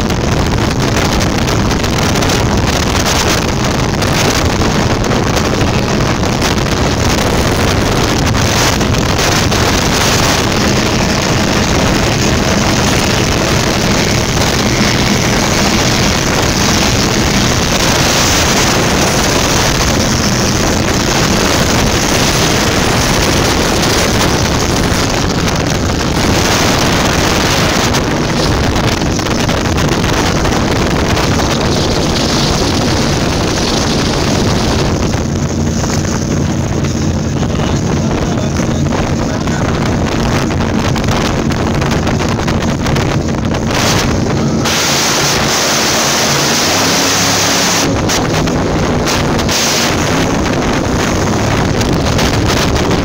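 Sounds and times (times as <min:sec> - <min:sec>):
powerboat engine drone: 0:00.0 - 0:53.0
rushing water and spray: 0:00.0 - 0:53.0
wind noise on microphone: 0:00.0 - 0:53.0.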